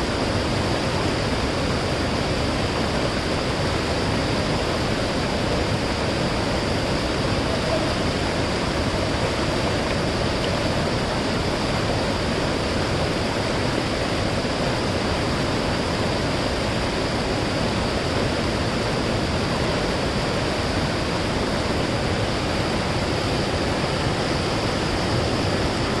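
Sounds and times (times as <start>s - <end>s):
mountain stream flowing: 0.0s - 26.0s.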